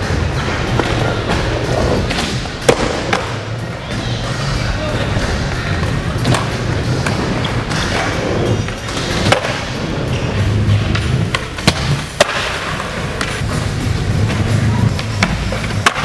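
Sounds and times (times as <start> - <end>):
skateboard wheels rolling on concrete: 0.0 - 16.0.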